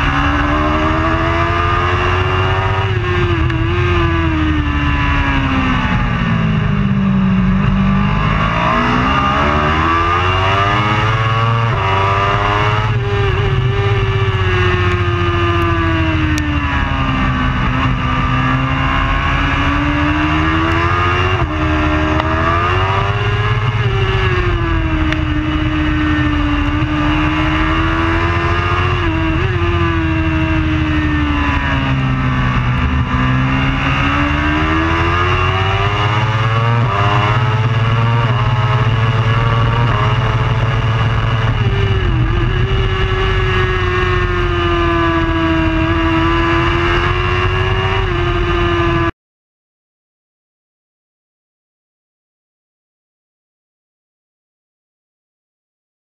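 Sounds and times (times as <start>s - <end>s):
racing motorcycle engine: 0.0s - 49.1s.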